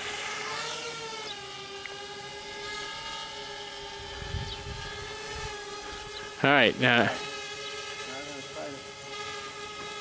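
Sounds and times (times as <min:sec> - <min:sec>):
quadcopter propellers whining: 0:00.0 - 0:10.0.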